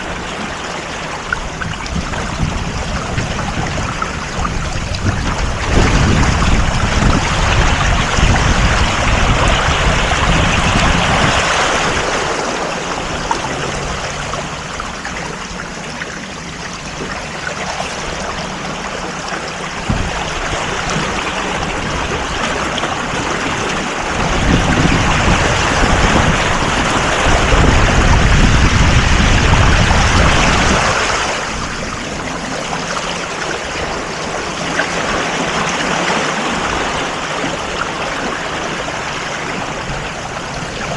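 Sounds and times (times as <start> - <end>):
water rushing along a hull: 0.0 - 40.9
wind buffeting microphone: 0.0 - 40.9.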